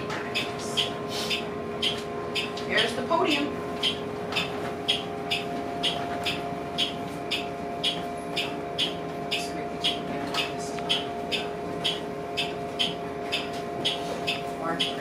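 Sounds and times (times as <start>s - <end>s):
bus cabin hum with held tones: 0.0s - 15.0s
sharp repeating tick: 0.4s - 2.6s, 3.8s - 15.0s.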